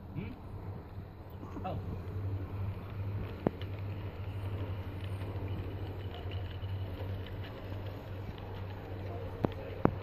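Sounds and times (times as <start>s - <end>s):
model train rumbling on track: 0.4s - 10.0s.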